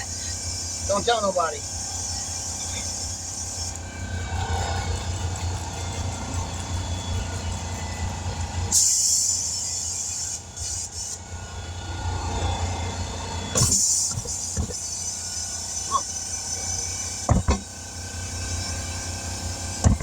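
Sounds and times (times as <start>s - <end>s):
air hissing: 0.0s - 11.8s, 13.4s - 20.0s
low machine hum: 0.0s - 20.0s.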